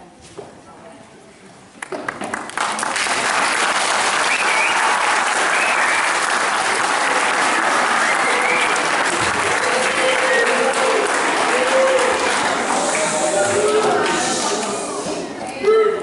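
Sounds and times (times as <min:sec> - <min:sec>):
audience applauding: 0:01.8 - 0:15.0.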